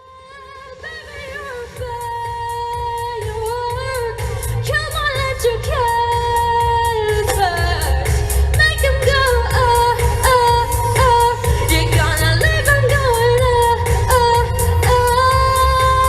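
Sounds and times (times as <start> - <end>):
woman singing: 0.0 - 16.0
drum beat and bass: 1.2 - 16.0.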